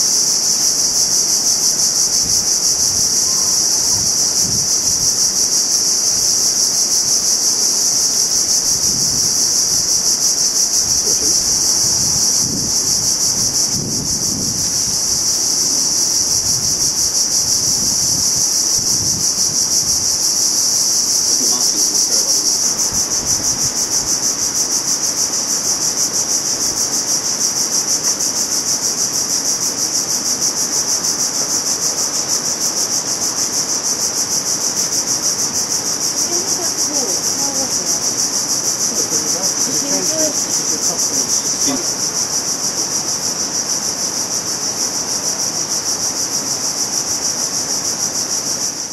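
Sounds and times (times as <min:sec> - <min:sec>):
tropical insects trilling: 0:00.0 - 0:48.9.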